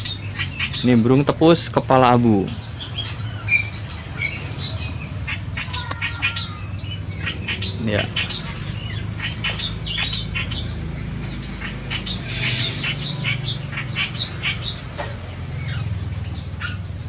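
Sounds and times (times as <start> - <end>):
birds chirping: 0.0 - 17.0
reed warbler song: 0.0 - 17.0.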